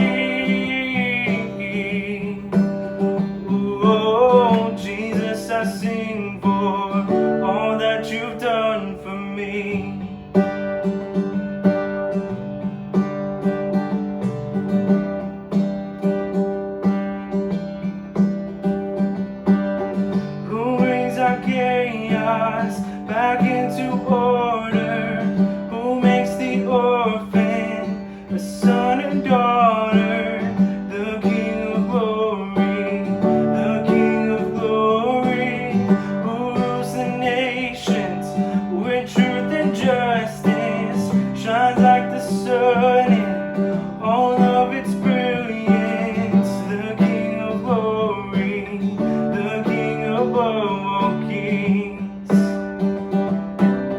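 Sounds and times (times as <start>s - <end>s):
strummed acoustic guitar: 0.0s - 53.9s.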